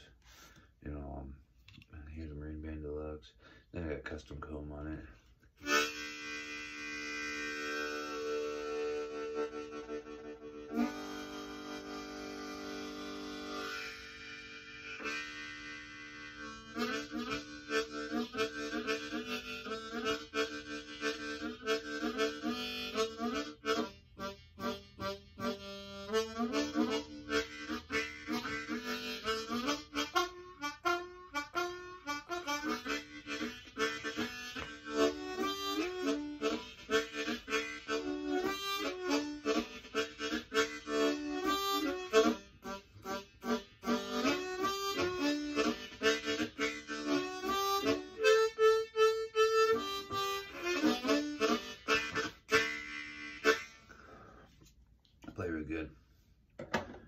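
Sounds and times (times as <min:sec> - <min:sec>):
harmonica playing: 0:05.0 - 0:54.6.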